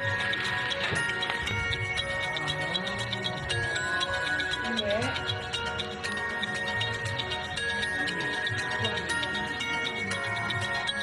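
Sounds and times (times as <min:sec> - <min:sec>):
background music with held tones: 0:00.0 - 0:11.0
steady light tick: 0:00.0 - 0:11.0.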